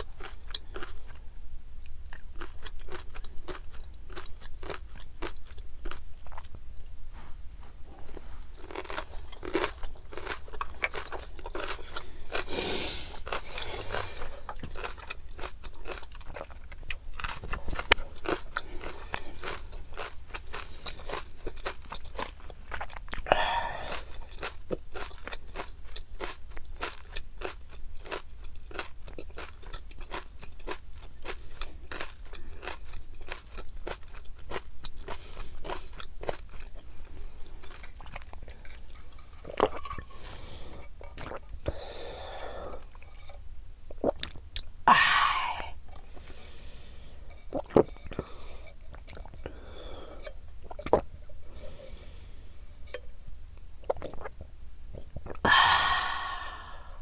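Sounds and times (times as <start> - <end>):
fish roe crackling while chewed: 0.0 - 44.7, 45.8 - 54.4.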